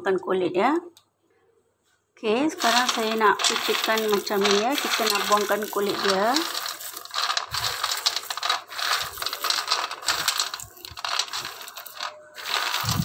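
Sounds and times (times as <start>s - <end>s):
peanuts clattering on metal tray: 2.6s - 13.0s.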